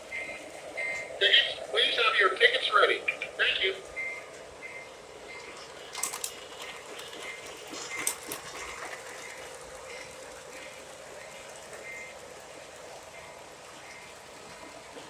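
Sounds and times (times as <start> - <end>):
model train whirring on track: 0.0 - 15.0.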